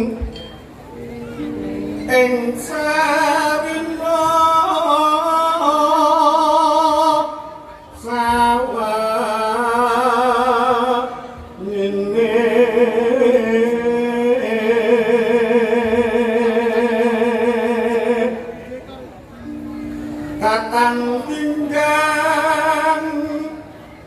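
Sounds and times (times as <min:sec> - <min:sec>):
person singing slow song: 0:00.0 - 0:18.8, 0:19.5 - 0:24.0.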